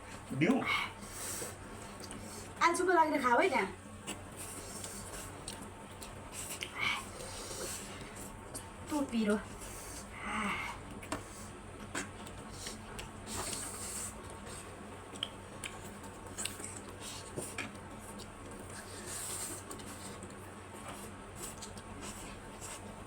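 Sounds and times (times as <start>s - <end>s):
wet chewing and smacking: 0.1s - 2.6s, 3.9s - 23.0s.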